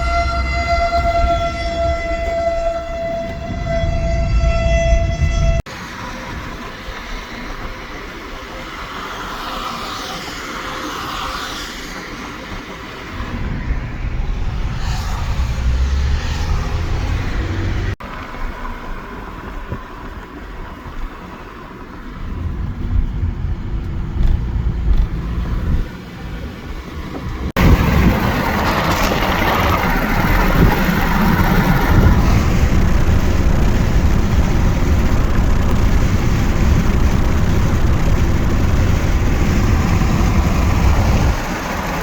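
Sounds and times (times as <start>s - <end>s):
car engine and road rumble: 0.0s - 42.0s
wind: 0.0s - 42.0s.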